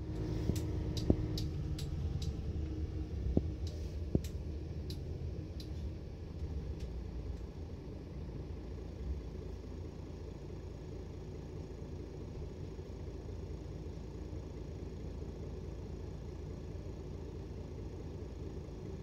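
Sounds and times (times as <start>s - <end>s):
bus rumble: 0.0s - 19.0s.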